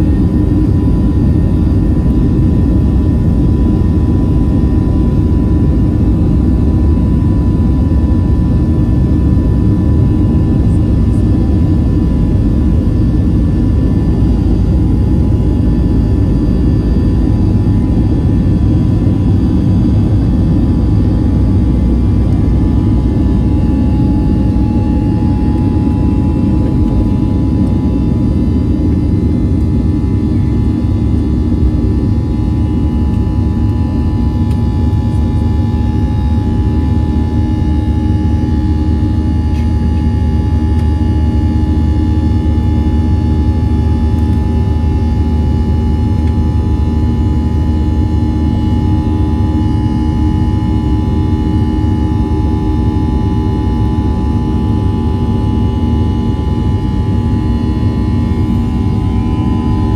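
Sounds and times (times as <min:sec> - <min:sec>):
high fan tones: 0:00.0 - 0:59.9
jet engine rumble: 0:00.0 - 0:59.9.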